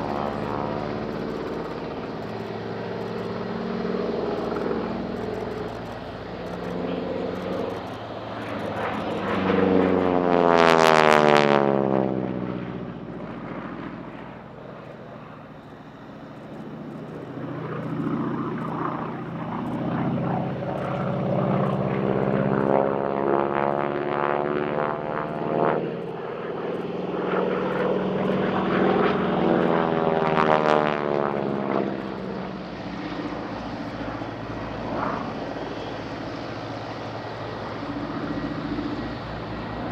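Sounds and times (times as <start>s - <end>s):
radial aircraft engine and propeller: 0.0s - 39.9s.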